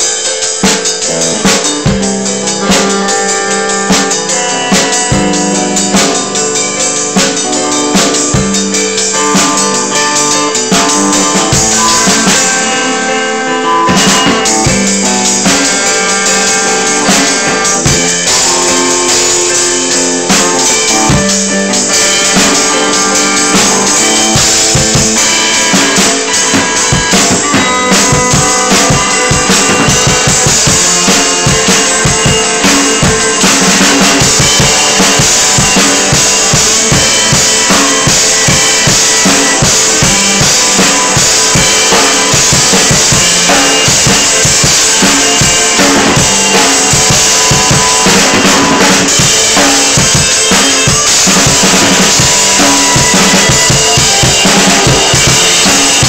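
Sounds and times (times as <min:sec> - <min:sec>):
drum kit played fast: 0:00.0 - 0:56.0
electric guitar: 0:00.0 - 0:56.0
crashing cymbals: 0:01.6 - 0:56.0.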